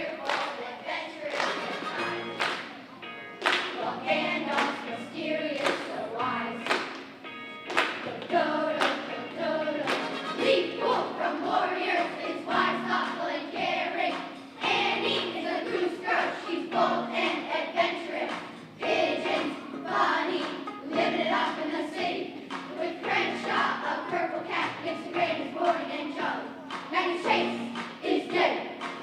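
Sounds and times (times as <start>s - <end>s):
children's choir singing: 0.0s - 29.0s.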